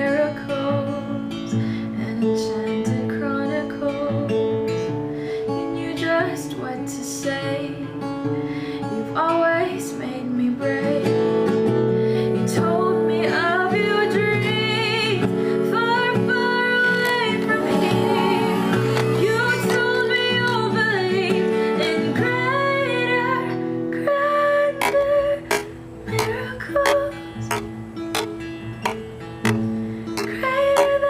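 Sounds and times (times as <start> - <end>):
woman singing: 0.0 - 28.3, 28.9 - 31.0
plucked guitar: 0.0 - 31.0.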